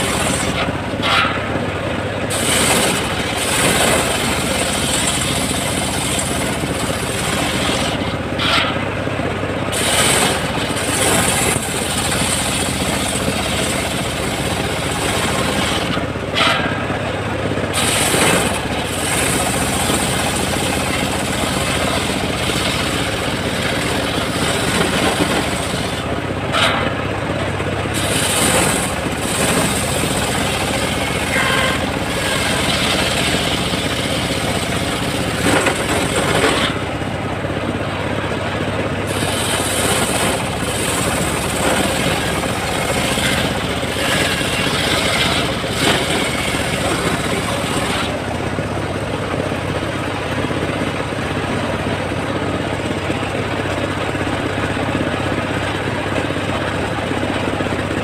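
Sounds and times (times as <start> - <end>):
motor humming: 0.0 - 49.4
circular saw cutting log: 0.0 - 58.0.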